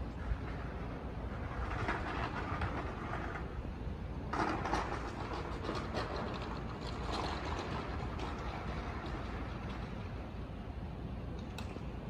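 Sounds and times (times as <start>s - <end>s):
rushing crackly noise: 0.0s - 10.8s
steady low city rumble: 0.0s - 12.0s.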